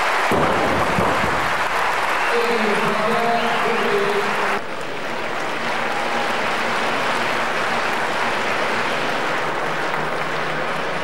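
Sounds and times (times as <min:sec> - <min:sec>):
audience applause: 0:00.0 - 0:11.0
crowd noise: 0:00.0 - 0:11.0.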